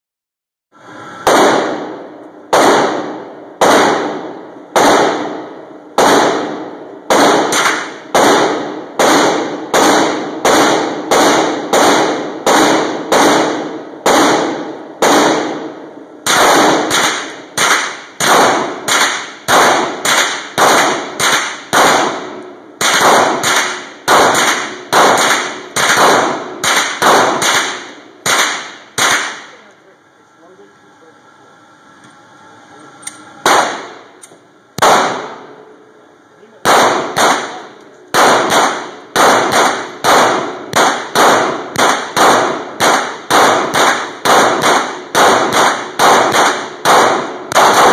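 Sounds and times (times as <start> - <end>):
rifle shots echoing indoors: 1.2 - 29.7, 33.1 - 35.6, 36.5 - 47.9.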